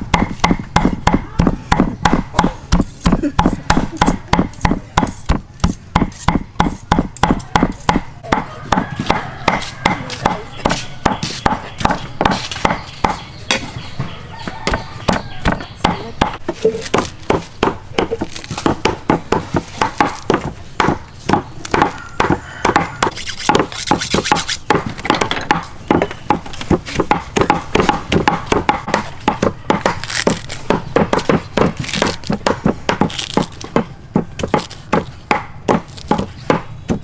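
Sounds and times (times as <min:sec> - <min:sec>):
knife chopping on wooden block: 0:00.1 - 0:13.7, 0:14.6 - 0:37.0.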